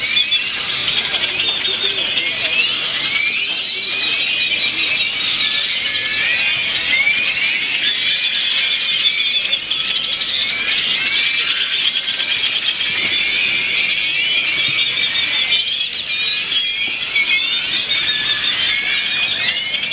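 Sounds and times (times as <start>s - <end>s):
flock of birds chirping: 0.0s - 19.9s.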